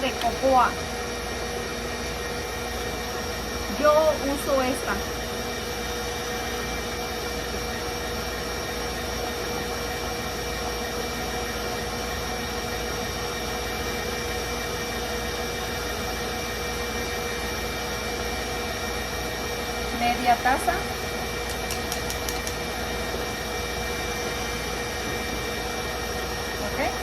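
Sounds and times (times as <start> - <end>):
stand mixer whirring: 0.0 - 27.0.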